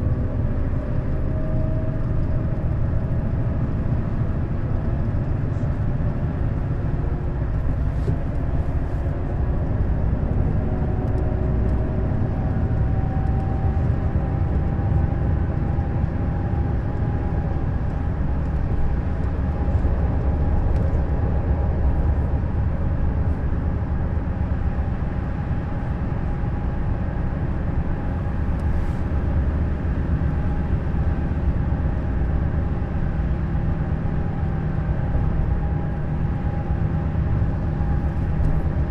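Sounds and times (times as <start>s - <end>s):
diesel coach engine: 0.0s - 38.9s
road noise: 0.0s - 38.9s.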